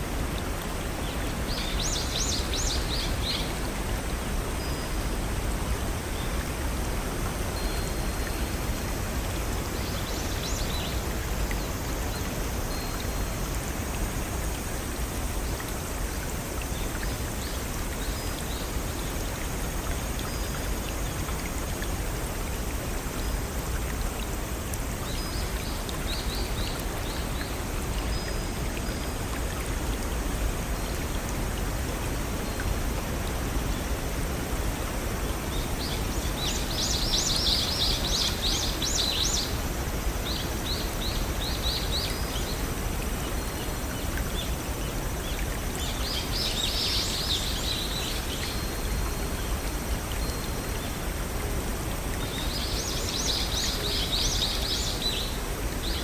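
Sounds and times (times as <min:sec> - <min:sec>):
waterfall and brook running: 0:00.0 - 0:56.0.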